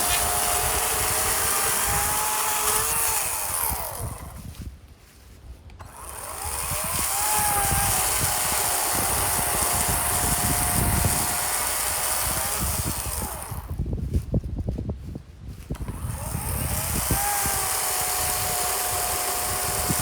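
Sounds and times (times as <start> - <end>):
chainsaw cutting a log: 0.0 - 4.4, 5.8 - 13.8, 15.7 - 20.0.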